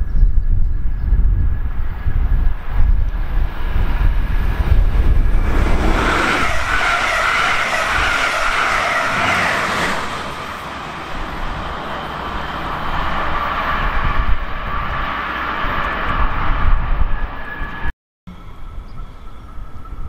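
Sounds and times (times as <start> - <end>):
train wheels rushing on rail: 1.3 - 17.9
high hissing squeal: 3.7 - 20.0.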